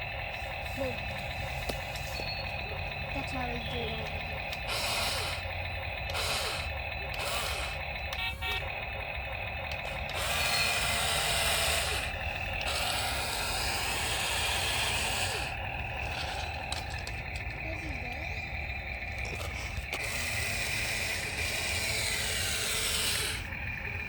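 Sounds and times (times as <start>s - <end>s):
steady high whine: 0.0s - 24.0s
toy electric motors whirring: 0.0s - 24.0s.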